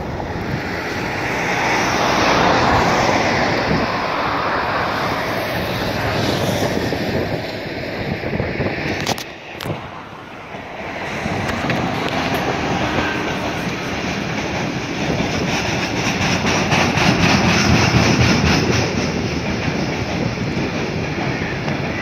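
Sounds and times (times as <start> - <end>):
freight train rolling past: 0.0 - 22.0
wheels clickety-clack on rail joints: 0.0 - 22.0.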